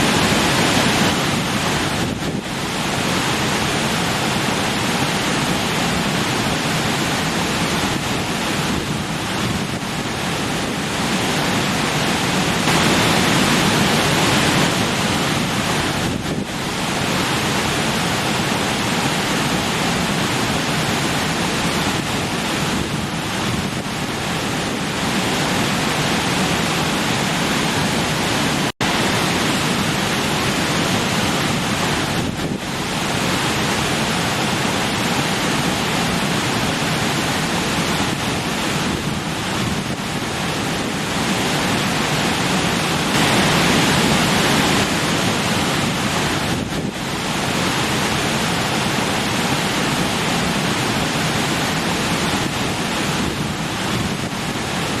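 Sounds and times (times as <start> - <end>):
stream water splashing over rocks: 0.0 - 55.0.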